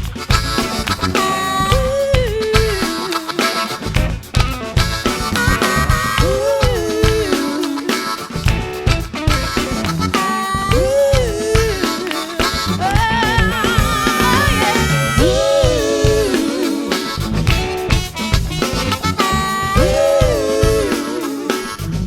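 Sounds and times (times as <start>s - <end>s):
live soul-funk band: 0.0s - 22.0s.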